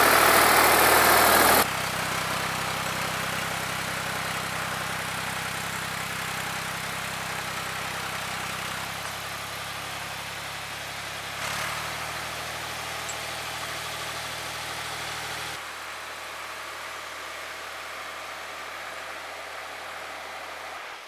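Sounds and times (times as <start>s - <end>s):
diesel tractor engine under load: 0.0s - 20.7s.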